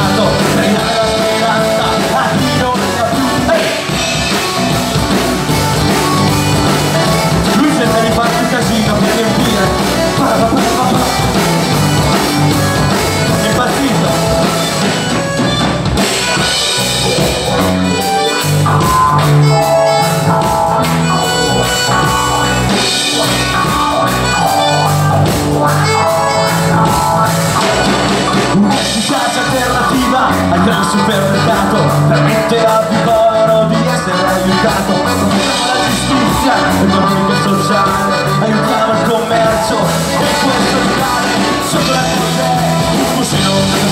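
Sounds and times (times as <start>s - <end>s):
accordion: 0.0s - 43.9s
drum kit: 0.0s - 43.9s
electric guitars: 0.0s - 43.9s.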